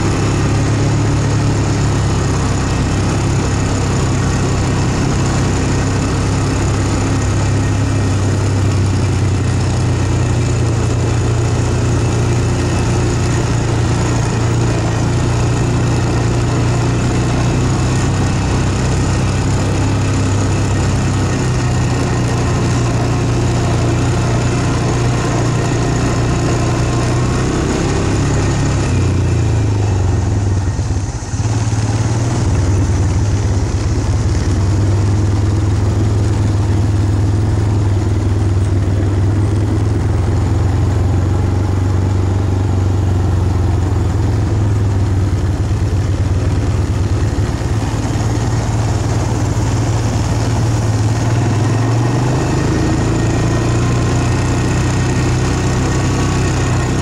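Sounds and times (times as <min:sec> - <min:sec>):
vehicle engine humming: 0:00.0 - 0:57.0.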